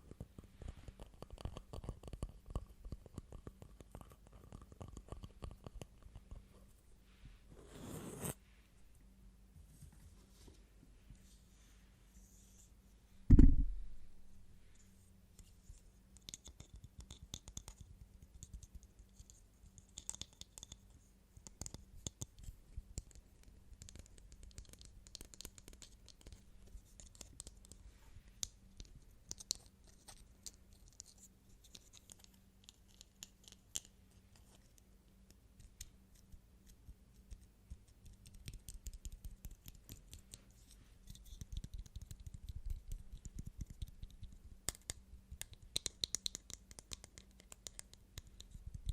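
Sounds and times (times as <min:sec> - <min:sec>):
soft tapping and scratching: 0:00.0 - 0:08.4, 0:14.7 - 0:48.9.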